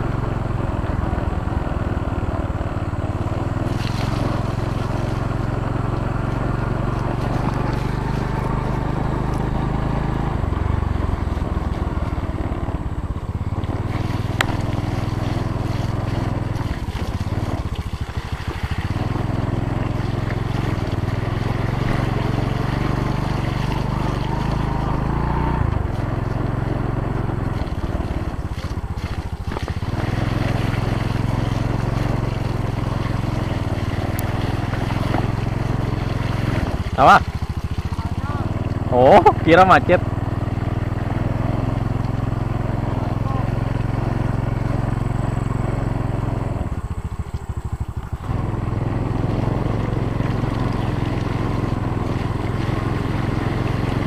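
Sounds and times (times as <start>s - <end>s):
small motorbike engine revving: 0.0s - 54.0s.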